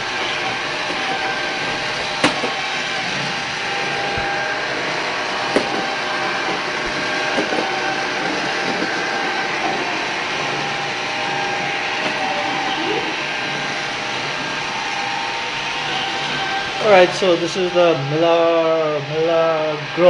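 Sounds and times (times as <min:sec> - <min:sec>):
robotic vacuum cleaner whirring: 0:00.0 - 0:20.0.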